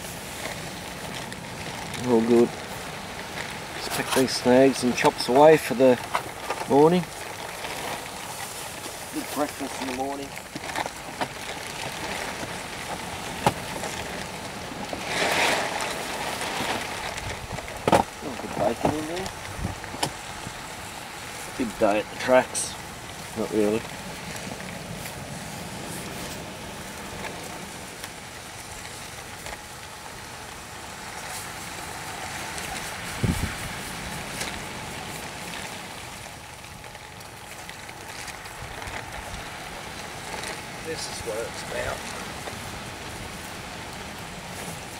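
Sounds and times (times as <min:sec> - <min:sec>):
faint fire crackles: 0:00.0 - 0:44.9
meat sizzling over campfire: 0:00.0 - 0:44.9.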